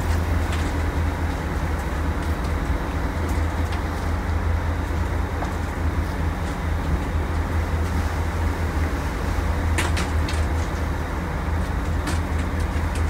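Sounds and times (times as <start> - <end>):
boat engines droning: 0.0 - 13.0
rush of wake and wind: 0.0 - 13.0.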